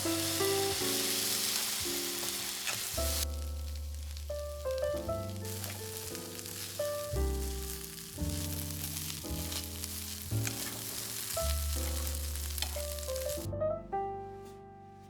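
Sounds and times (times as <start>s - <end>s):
food sizzling in a frying pan: 0.0s - 13.5s
background music: 0.0s - 15.0s.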